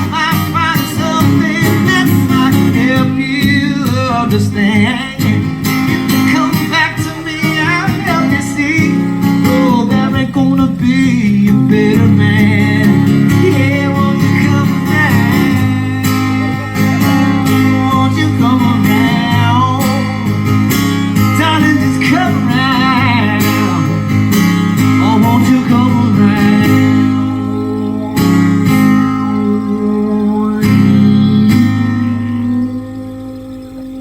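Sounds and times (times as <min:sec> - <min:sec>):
person singing: 0:00.0 - 0:20.3, 0:25.0 - 0:34.0
live country band: 0:00.0 - 0:34.0
strummed acoustic guitar: 0:00.0 - 0:34.0.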